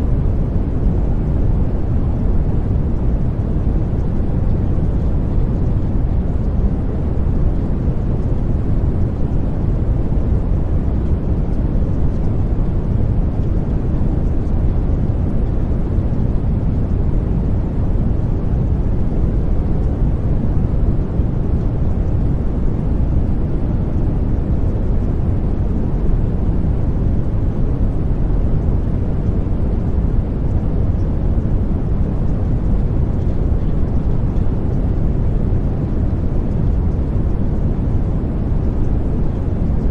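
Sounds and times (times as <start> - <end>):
steady low rumbling noise: 0.0 - 39.9.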